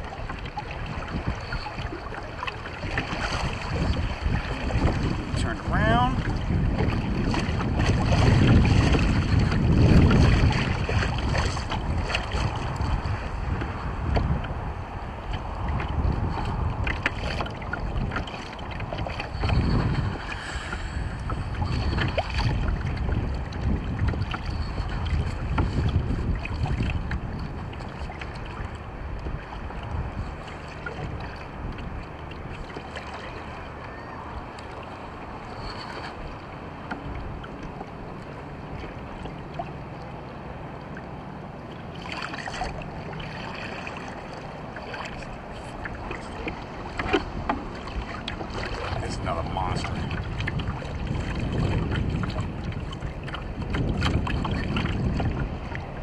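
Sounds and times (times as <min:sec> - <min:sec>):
water lapping against hull: 0:00.0 - 0:56.0
wind buffeting microphone: 0:00.0 - 0:56.0.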